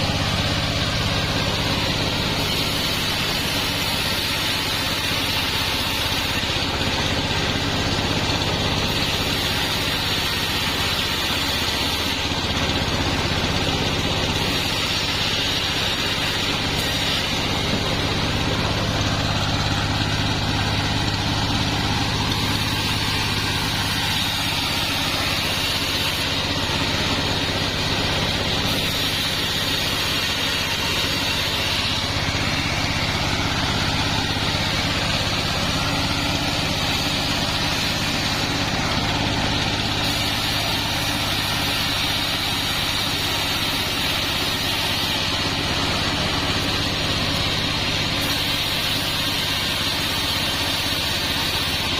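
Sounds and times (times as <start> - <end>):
high saw whine: 0.0 - 51.9
low engine hum: 0.0 - 51.9.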